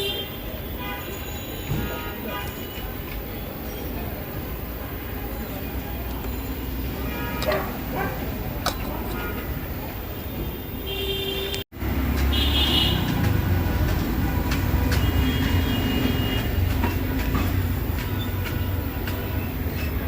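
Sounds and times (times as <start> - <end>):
heavy vehicles rumbling past: 1.5 - 20.0.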